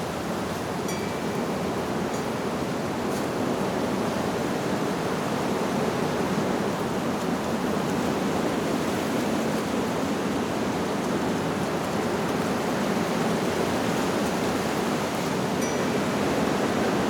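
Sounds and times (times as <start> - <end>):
wind blowing through leaves: 0.0 - 17.0.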